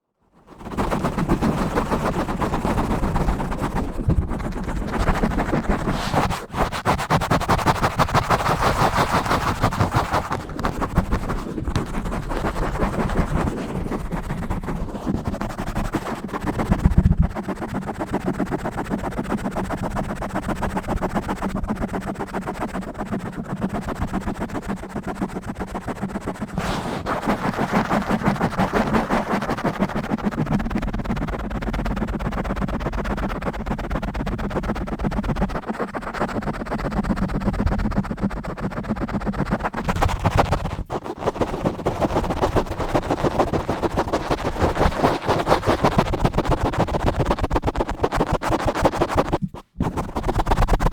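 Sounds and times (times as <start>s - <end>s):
scratching on a microphone: 0.4s - 50.9s.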